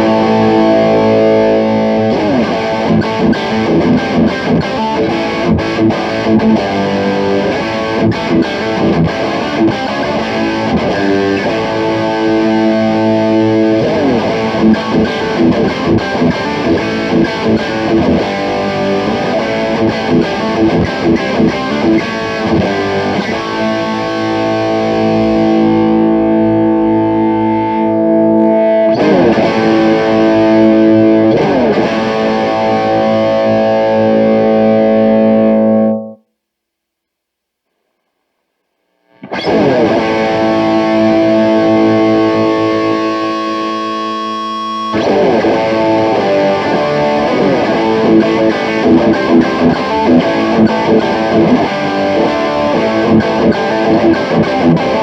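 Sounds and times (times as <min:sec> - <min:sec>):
distorted electric guitar riffs: 0:00.0 - 0:36.4, 0:39.0 - 0:55.0.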